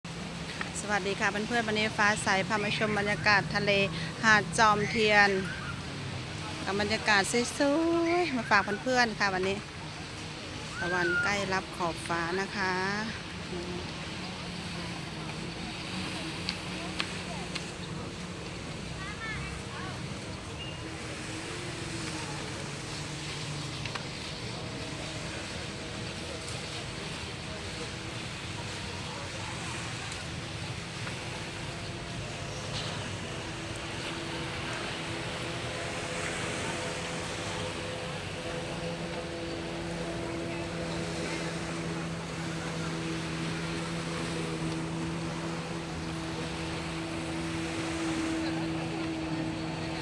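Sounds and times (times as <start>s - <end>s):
low motor hum: 0.0s - 50.0s
wind: 0.0s - 50.0s
waves washing onto beach: 0.1s - 50.0s.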